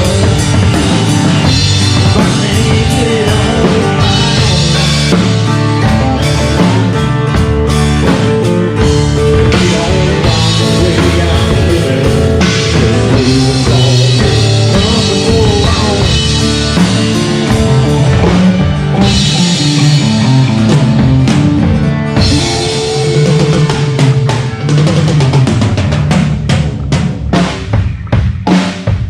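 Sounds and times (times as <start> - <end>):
drum kit: 0.0 - 29.0
live rock band playing: 0.0 - 29.0.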